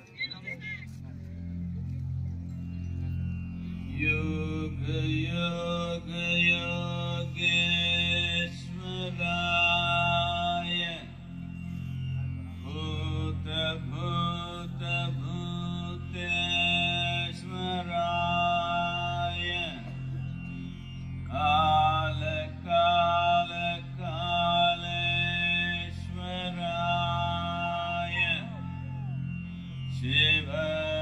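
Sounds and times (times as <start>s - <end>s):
low drone: 0.0s - 31.0s
sung mantra chant: 3.8s - 31.0s.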